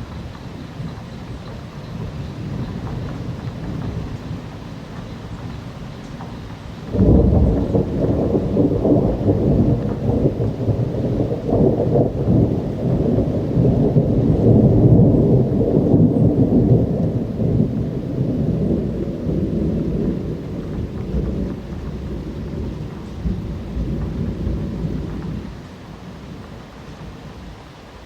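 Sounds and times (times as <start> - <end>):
rolling thunder rumble: 0.0 - 28.0
steady rain: 0.0 - 28.0.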